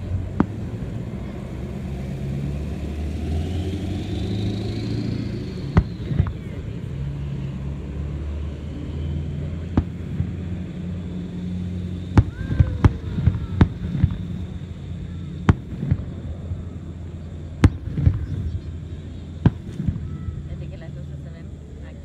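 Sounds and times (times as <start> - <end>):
distant fireworks bursting: 0.0 - 21.4
steady low hum: 0.0 - 22.0.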